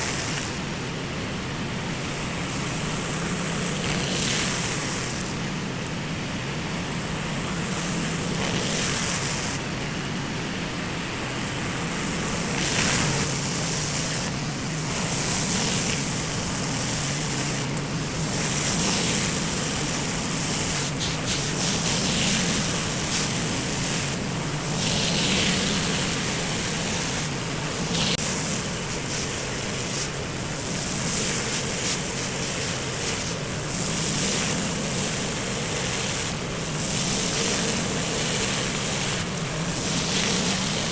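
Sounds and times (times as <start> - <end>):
pressure washer engine hum: 0.0 - 40.9
water jet hissing on concrete: 0.0 - 40.9.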